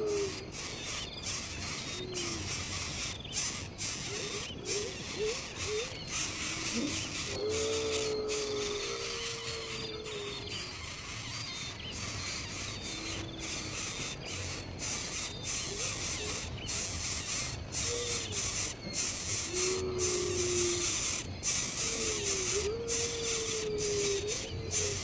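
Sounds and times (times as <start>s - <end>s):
steady high hiss: 0.0s - 25.0s
whistled bird calls: 0.0s - 25.0s.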